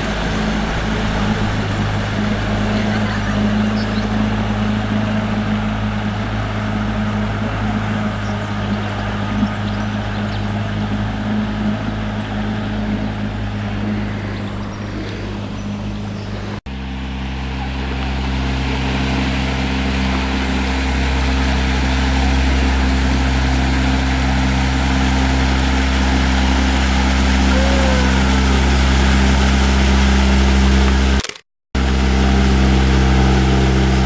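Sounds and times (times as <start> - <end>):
rushing water: 0.0 - 31.2, 31.8 - 34.0
motorboat engine humming: 0.0 - 34.0.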